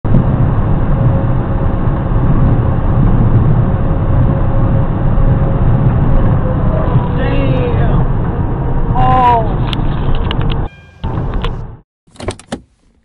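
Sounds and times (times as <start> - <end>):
vehicle engine and road rumble: 0.0 - 13.0
thin steady whine: 0.1 - 11.7.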